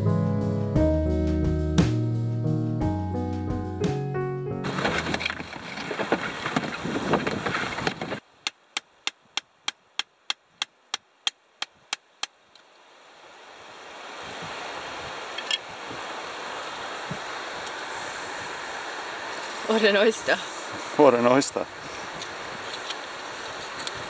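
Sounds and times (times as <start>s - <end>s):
surf and wind: 4.6s - 24.0s.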